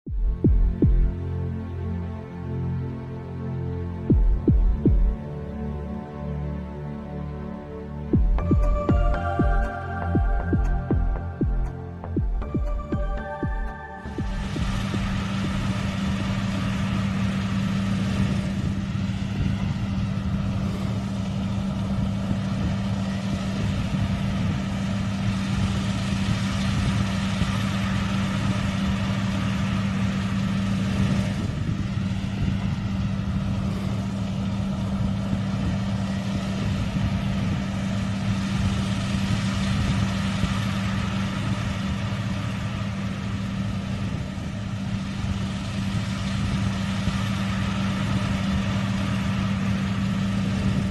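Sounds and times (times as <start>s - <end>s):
combine harvester engine humming: 0.1s - 50.9s.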